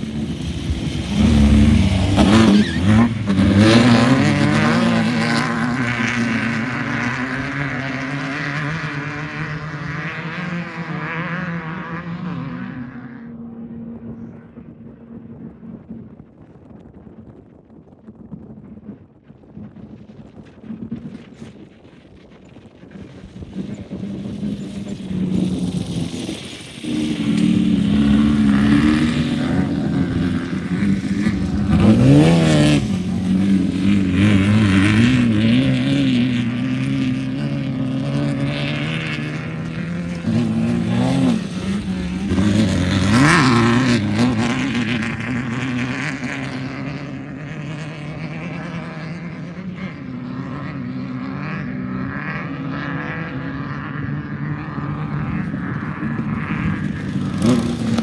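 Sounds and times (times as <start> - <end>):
vehicle engine revving: 0.0 - 15.9, 22.8 - 58.0.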